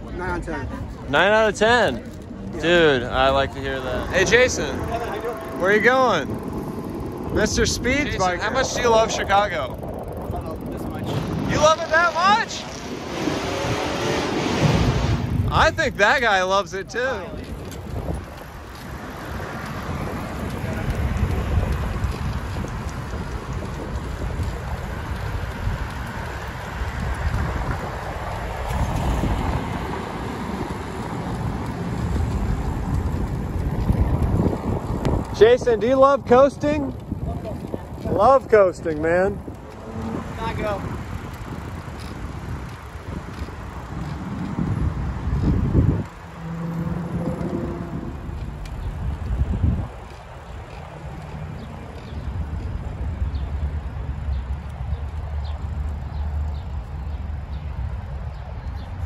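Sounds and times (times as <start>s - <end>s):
low rumble of bike riding: 0.0s - 59.0s
street traffic: 0.0s - 59.0s
wind buffeting microphone: 0.0s - 59.0s.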